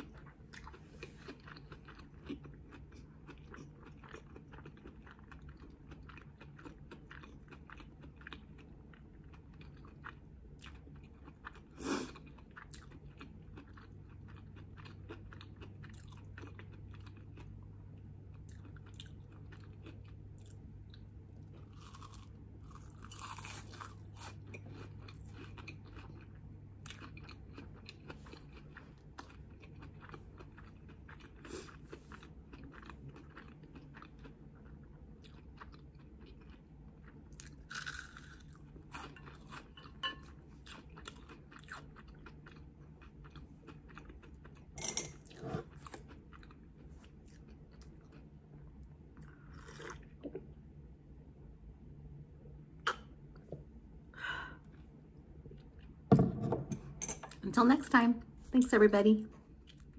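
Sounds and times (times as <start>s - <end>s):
crunchy chewing: 0.0s - 17.6s, 18.3s - 50.3s.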